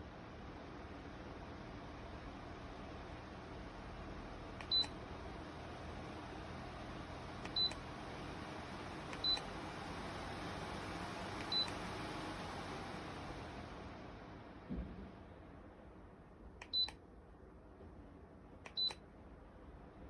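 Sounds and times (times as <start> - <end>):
tower fan blowing air: 0.0 - 20.0.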